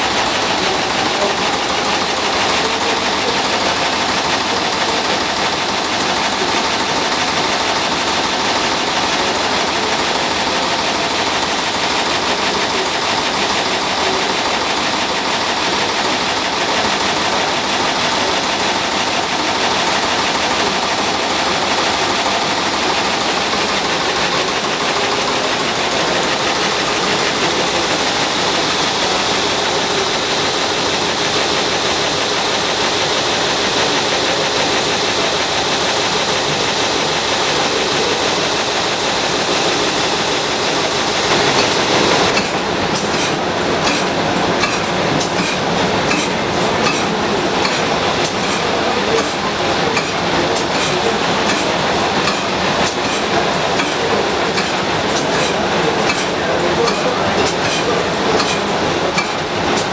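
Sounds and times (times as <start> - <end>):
stationary engine running: 0.0 - 59.9.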